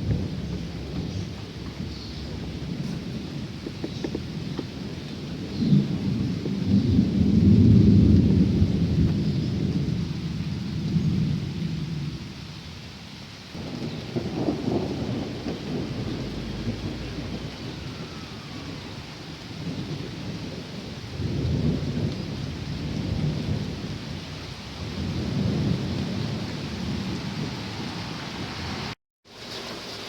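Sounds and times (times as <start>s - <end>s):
thunder rolling: 0.0s - 12.8s, 13.5s - 29.0s
steady rain: 0.0s - 30.0s.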